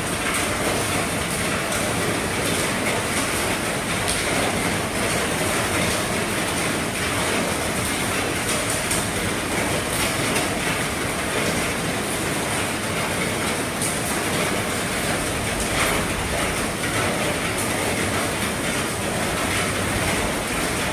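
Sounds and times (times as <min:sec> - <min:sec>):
heavy rain on a roof: 0:00.0 - 0:20.9.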